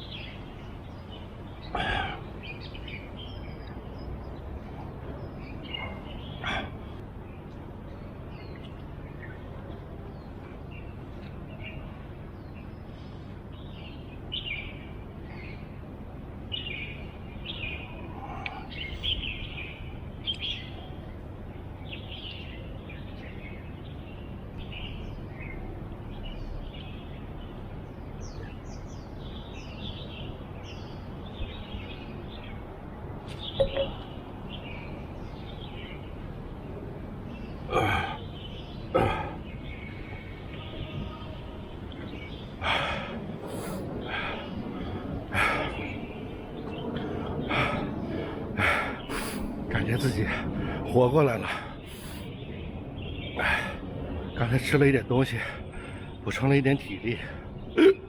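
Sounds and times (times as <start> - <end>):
birds chirping: 0.0 - 58.0
low background noise: 0.0 - 58.0.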